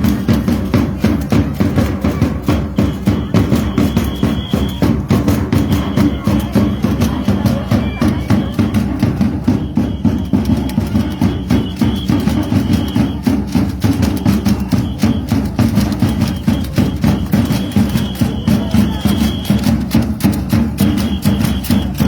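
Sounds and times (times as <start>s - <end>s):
drums beating fast rhythm: 0.0s - 22.0s.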